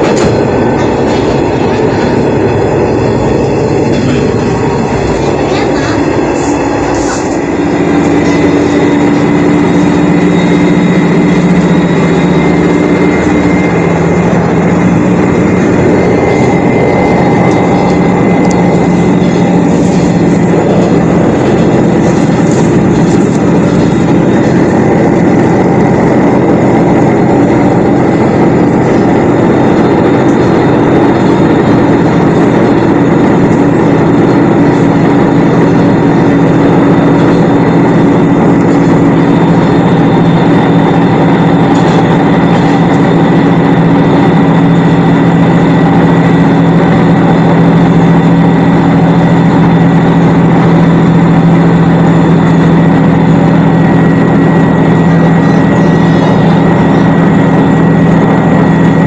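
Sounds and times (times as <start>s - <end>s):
diesel railcar engine drone: 0.0s - 59.0s.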